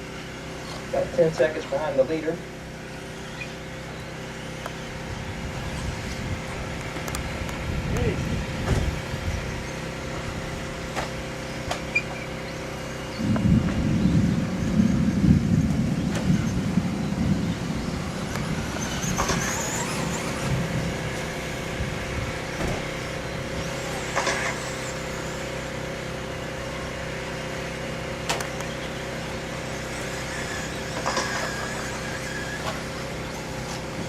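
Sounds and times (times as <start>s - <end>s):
motor and gear whine: 0.0s - 34.0s
steady hum: 0.0s - 34.0s.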